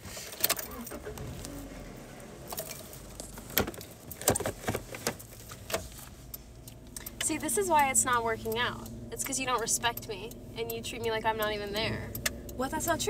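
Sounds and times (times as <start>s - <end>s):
sharp clicks and rattles: 0.0s - 13.0s.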